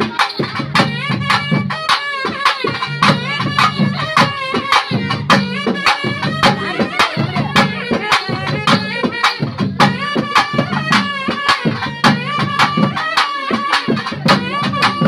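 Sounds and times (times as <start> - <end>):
drums in fast beat: 0.0 - 15.0
reed wind instrument melody: 0.0 - 15.0.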